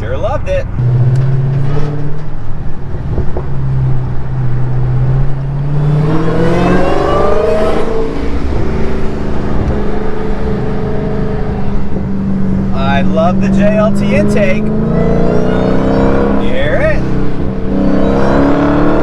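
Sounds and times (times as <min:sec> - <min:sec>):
car engine revving: 0:00.6 - 0:19.0.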